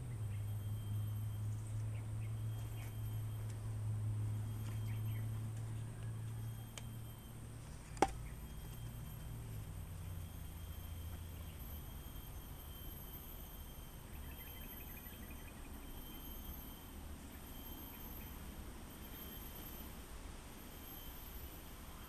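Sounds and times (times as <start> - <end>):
faint chirps: 0.0 - 7.4, 8.2 - 19.8.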